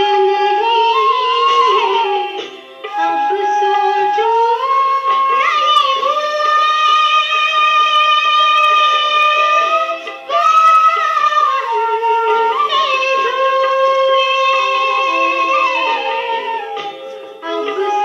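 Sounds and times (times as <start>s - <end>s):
bamboo flute melody with slides: 0.0s - 18.0s
song with singing: 0.0s - 18.0s.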